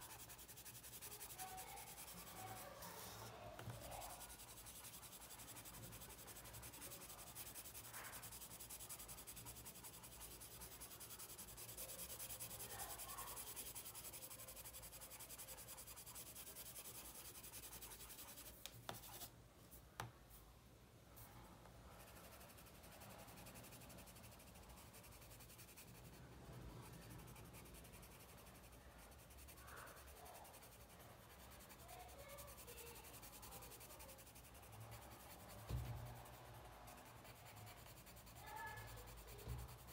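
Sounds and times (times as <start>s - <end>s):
pencil scratching on paper: 0.0s - 19.3s, 21.9s - 39.9s.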